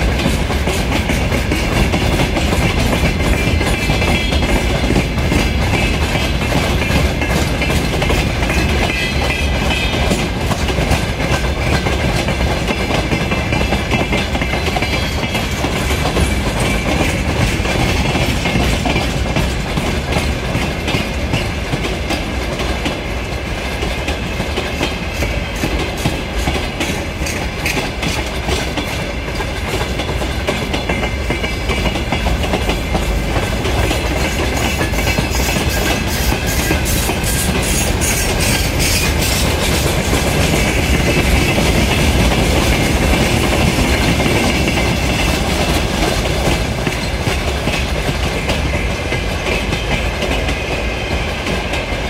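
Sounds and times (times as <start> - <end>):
train wheels clattering on rails: 0.0 - 52.0.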